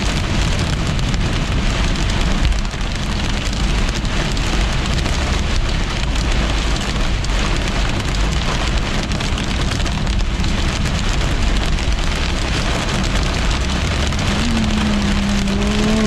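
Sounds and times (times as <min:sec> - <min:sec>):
heavy rain on car roof: 0:00.0 - 0:16.0
low road rumble: 0:00.0 - 0:16.0.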